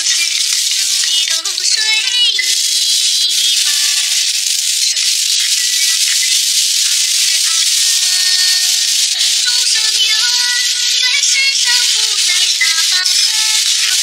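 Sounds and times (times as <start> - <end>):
faint background music: 0.0 - 14.0
food sizzling in a wok: 0.0 - 14.0.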